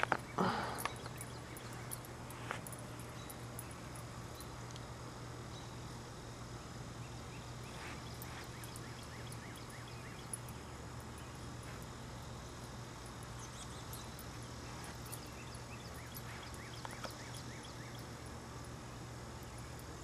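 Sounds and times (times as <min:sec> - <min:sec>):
faint insect chirping: 0:00.0 - 0:20.0
steady low hum: 0:00.0 - 0:20.0.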